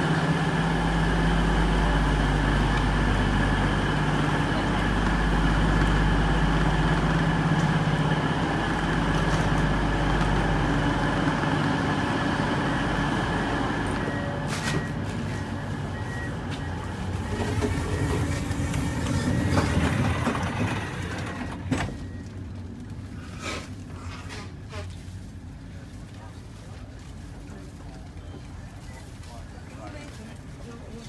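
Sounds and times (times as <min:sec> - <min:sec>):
diesel train engines droning: 0:00.0 - 0:30.8.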